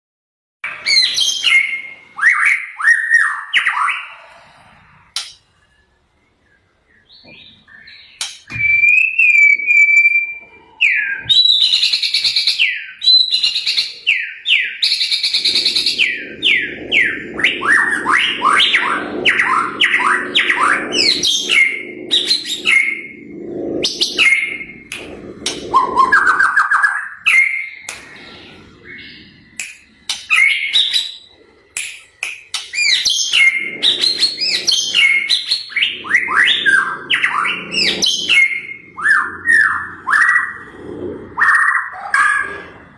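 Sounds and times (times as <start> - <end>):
starling singing: 0.6 - 42.9.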